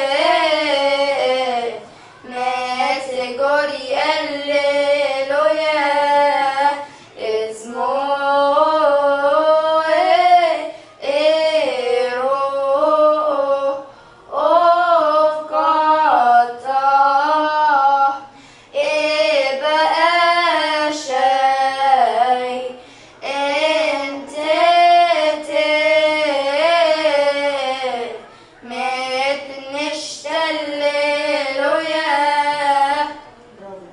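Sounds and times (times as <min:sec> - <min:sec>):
girls singing a hymn: 0:00.0 - 0:33.9.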